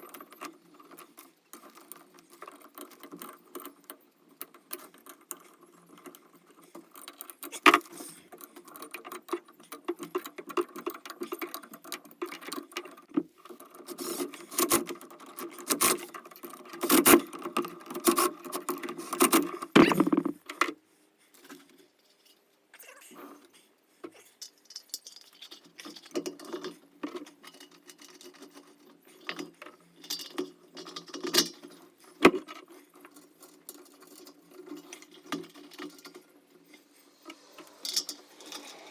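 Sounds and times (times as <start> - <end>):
metal parts clicking and rattling: 0.0 - 20.6, 24.1 - 38.9.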